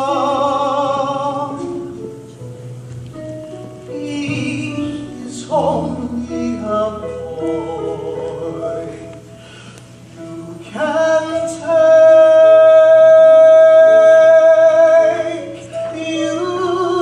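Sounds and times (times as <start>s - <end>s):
person singing with vibrato: 0.0s - 2.3s, 3.4s - 17.0s.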